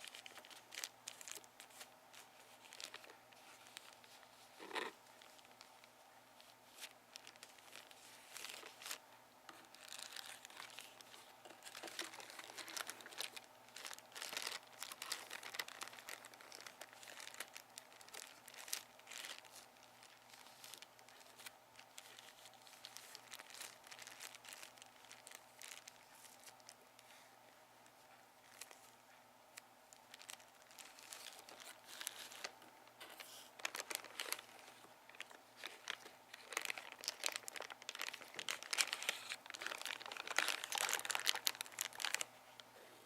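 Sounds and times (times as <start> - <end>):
bag crinkling: 0.0 - 26.8, 30.0 - 42.7.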